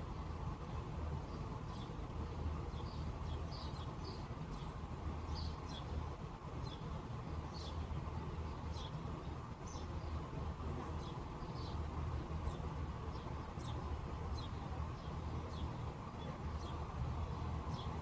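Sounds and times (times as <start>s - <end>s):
small birds chirping: 0.7s - 18.0s.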